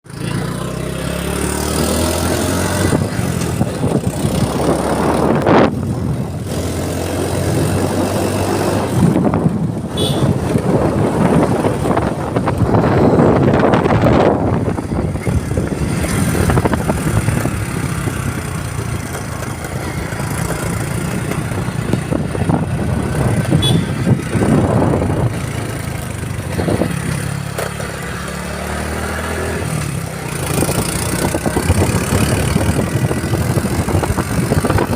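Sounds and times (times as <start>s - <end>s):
road and wind noise: 0.0s - 34.9s.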